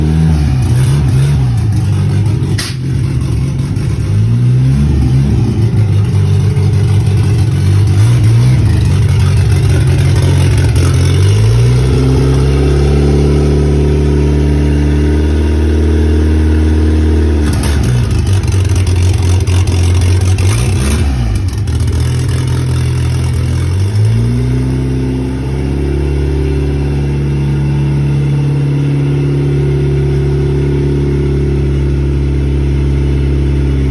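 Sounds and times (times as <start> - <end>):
pickup engine revving: 0.0 - 33.9.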